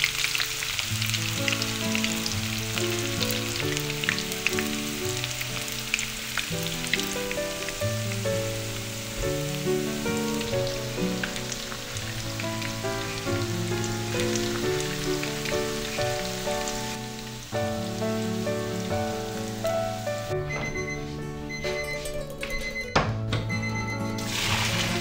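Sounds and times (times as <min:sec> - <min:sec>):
vegetables deep-frying in oil: 0:00.0 - 0:20.6, 0:24.2 - 0:25.0
soft instrumental music: 0:00.0 - 0:25.0.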